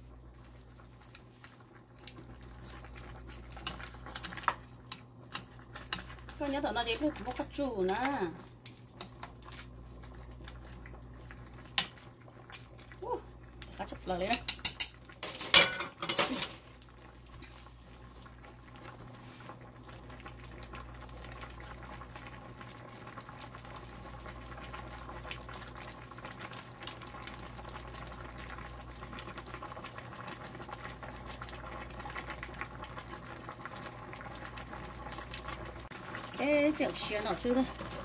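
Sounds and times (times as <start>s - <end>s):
sauce bubbling in a pan: 0.0s - 15.2s, 15.9s - 38.0s.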